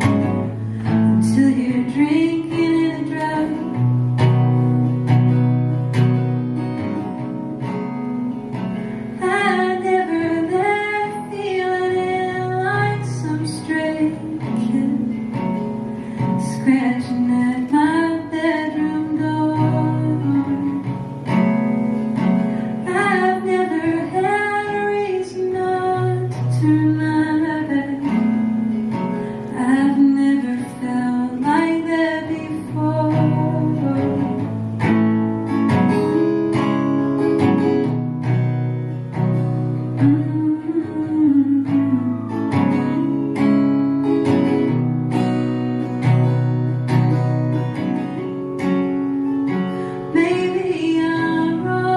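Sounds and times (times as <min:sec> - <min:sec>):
woman singing: 0:00.0 - 0:05.1, 0:09.2 - 0:21.4, 0:22.2 - 0:37.6, 0:39.6 - 0:44.8, 0:47.8 - 0:51.9
strummed acoustic guitar: 0:00.0 - 0:51.9.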